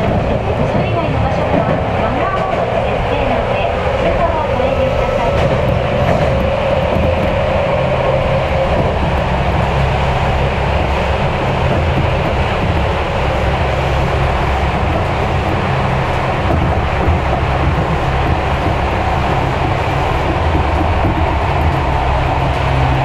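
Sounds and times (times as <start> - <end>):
electric train motors humming: 0.0 - 23.0
wheel and track noise: 0.0 - 23.0.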